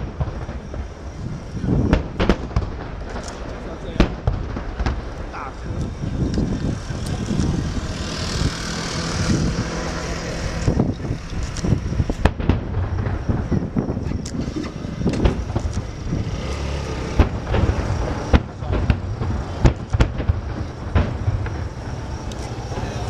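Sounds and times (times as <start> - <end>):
fireworks bangs and pops: 0.0 - 23.0
fireworks hissing crackle: 0.0 - 23.0
low rumble: 0.0 - 23.0.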